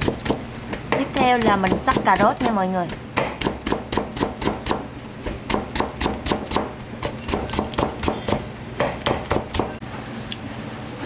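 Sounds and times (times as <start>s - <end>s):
knife chopping on cutting board: 0.0s - 9.8s.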